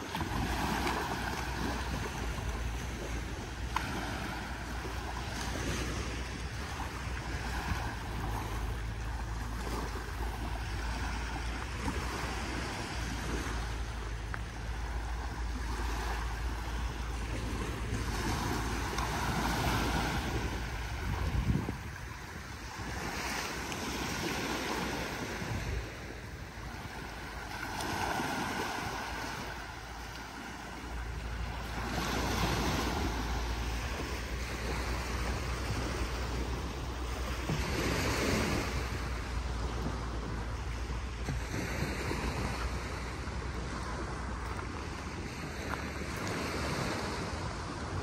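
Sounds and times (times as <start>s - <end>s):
surf waves breaking on sand: 0.0s - 48.0s
wind rumbling on microphone: 0.0s - 48.0s.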